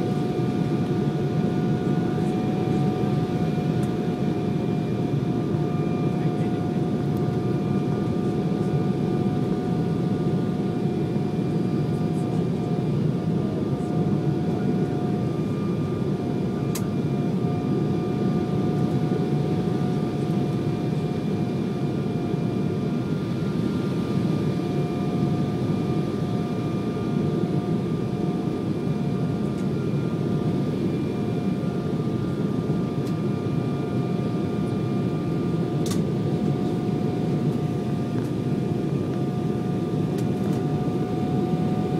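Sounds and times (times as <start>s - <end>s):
jet cabin engine roar: 0.0s - 41.9s.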